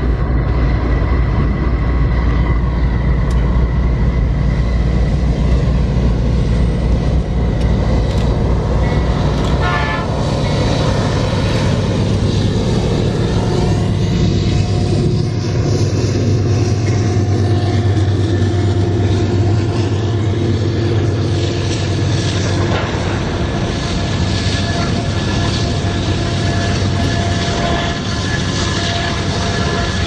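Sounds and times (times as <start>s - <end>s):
locomotive engine droning: 0.0s - 30.0s
train wheels clacking on rails: 3.2s - 30.0s.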